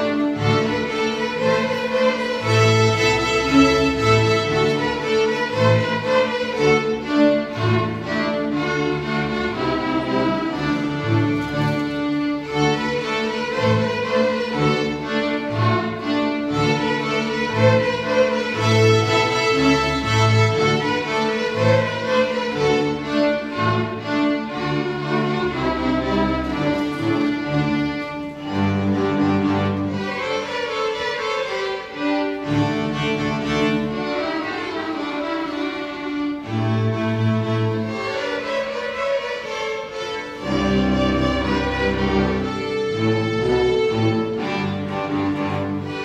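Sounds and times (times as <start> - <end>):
string orchestra playing: 0.0 - 46.0.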